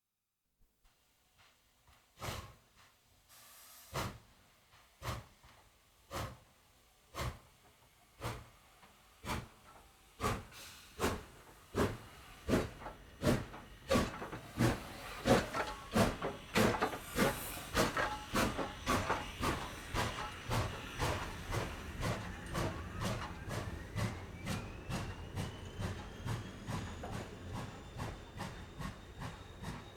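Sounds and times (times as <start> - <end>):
steam hiss: 2.2 - 2.6, 3.3 - 29.9
steam locomotive chuffing: 2.2 - 2.6, 3.4 - 29.9.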